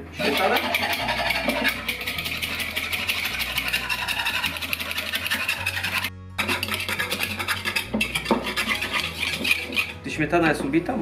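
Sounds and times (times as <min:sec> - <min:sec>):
whisk scraping a bowl: 0:00.0 - 0:10.6
background music: 0:00.0 - 0:11.0.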